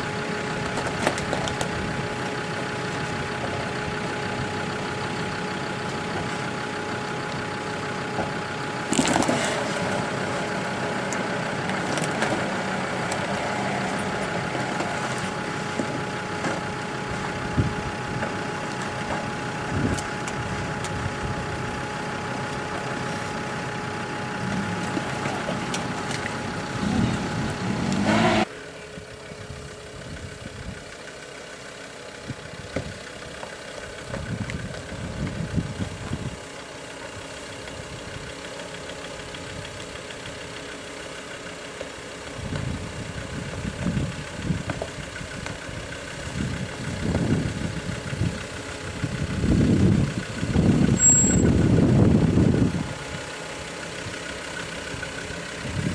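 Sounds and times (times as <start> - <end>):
engine surging uneven and low: 0.0 - 55.9
off-road engine at low speed: 0.0 - 55.9.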